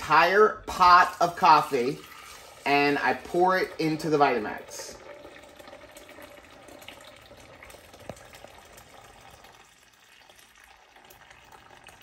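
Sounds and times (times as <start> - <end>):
coffee pouring into blender jar: 0.7 - 12.0.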